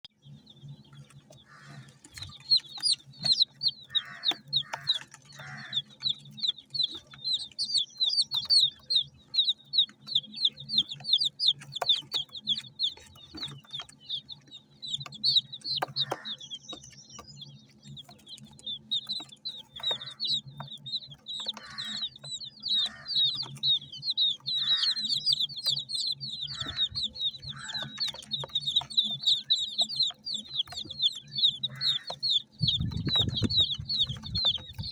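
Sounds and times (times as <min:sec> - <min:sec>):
chicks peeping: 0:00.0 - 0:34.9
lower rough chick calls: 0:00.8 - 0:34.9.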